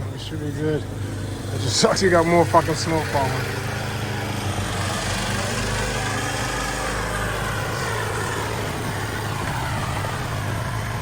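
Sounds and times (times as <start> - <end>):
snow blower engine running: 0.0 - 11.0.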